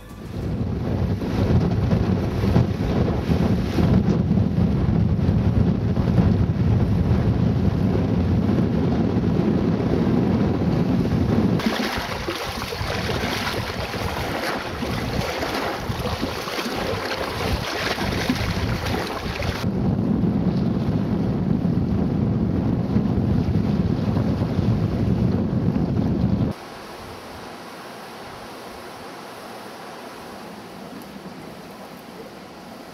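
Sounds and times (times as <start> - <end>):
wind and waves hissing: 0.0 - 32.9
wind buffeting microphone: 0.2 - 26.6.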